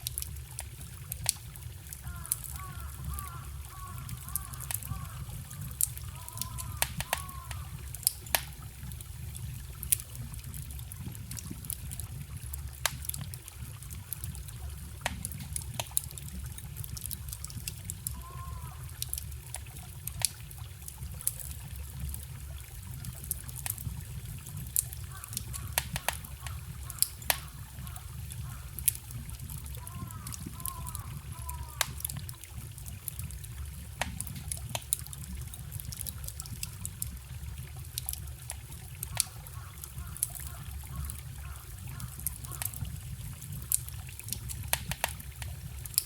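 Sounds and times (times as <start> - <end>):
stream trickling and gurgling: 0.0 - 46.0
wood fire crackling: 0.0 - 46.0.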